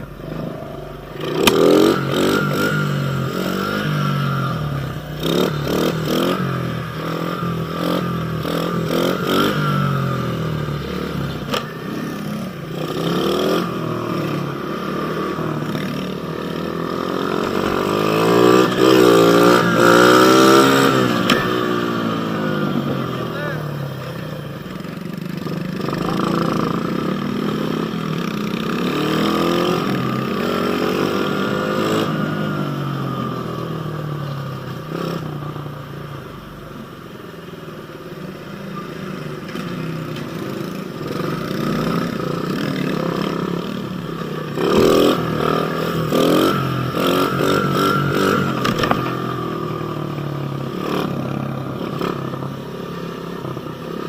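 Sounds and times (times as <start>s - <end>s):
motorbike engine revving: 0.0s - 35.6s, 39.5s - 54.0s.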